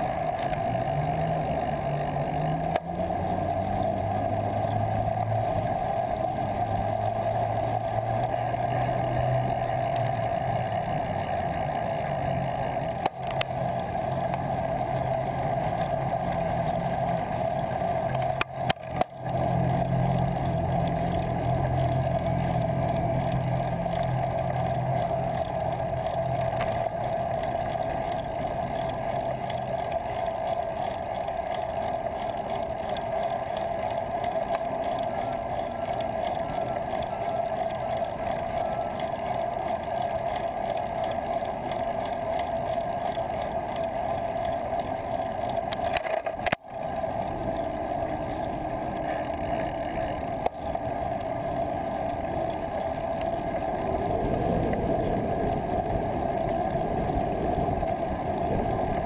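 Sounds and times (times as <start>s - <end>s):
bicycle road and wind noise: 0.0s - 59.0s
low hum: 0.0s - 59.0s.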